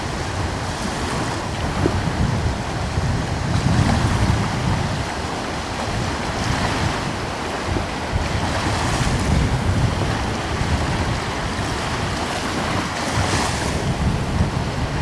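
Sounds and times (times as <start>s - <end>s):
ocean waves washing ashore: 0.0s - 15.0s
wind buffeting microphone: 0.0s - 15.0s.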